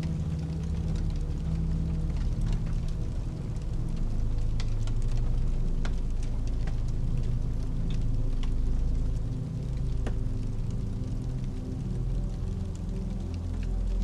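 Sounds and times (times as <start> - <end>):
deep ambient synth pad: 0.0 - 14.0
fire crackling and popping: 0.0 - 14.0.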